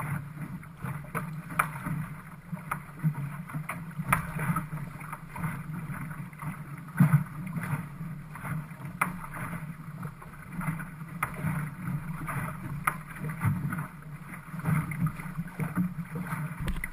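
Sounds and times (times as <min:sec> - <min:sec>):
water rushing along a hull: 0:00.0 - 0:16.9
water slapping against hull: 0:00.0 - 0:16.9.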